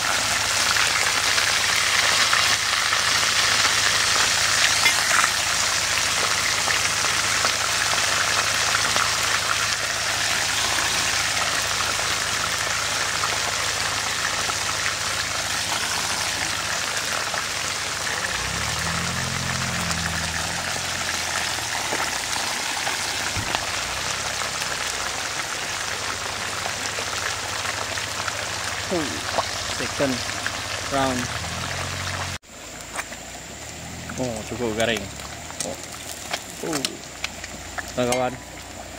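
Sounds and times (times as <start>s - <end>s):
fish deep-frying in oil: 0.0s - 38.9s.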